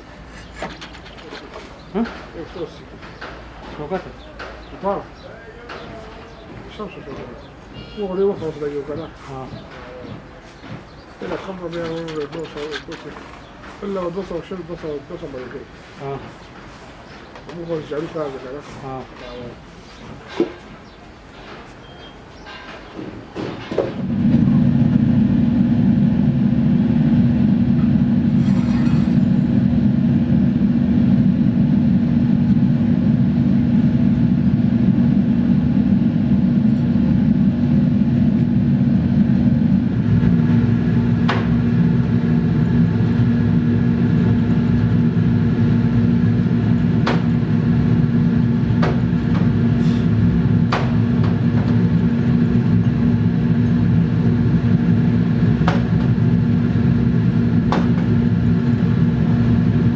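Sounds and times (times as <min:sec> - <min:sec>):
workshop machine humming drone: 0:00.0 - 0:59.9.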